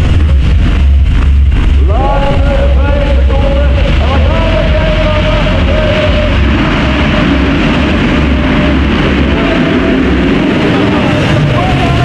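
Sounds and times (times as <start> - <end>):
motocross engines racing: 0.0 - 12.0.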